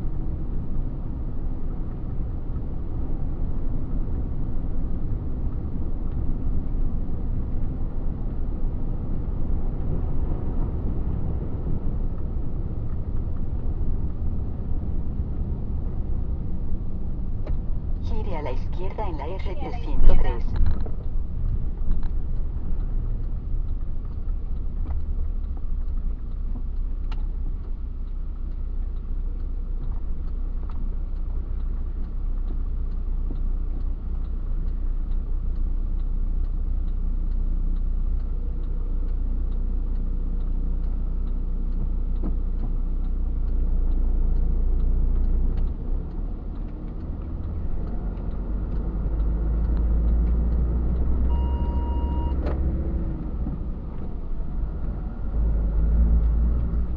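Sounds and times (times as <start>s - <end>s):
truck engine and road rumble: 0.0s - 56.9s.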